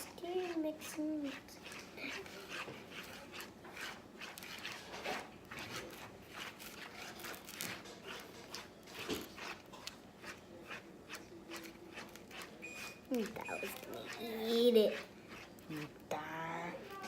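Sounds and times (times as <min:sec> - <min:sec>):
spoons stirring slime: 0:00.0 - 0:17.0.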